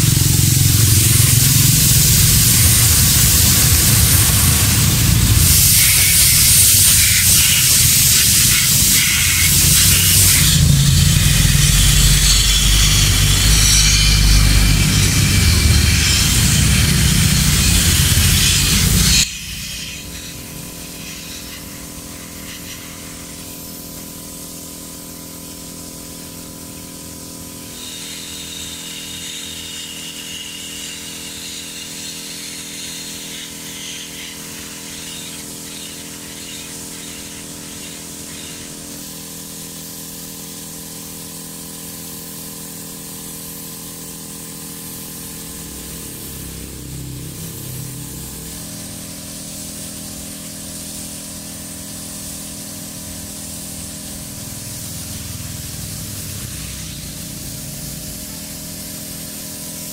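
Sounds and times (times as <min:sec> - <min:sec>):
air spray gun hissing: 0:00.0 - 0:59.9.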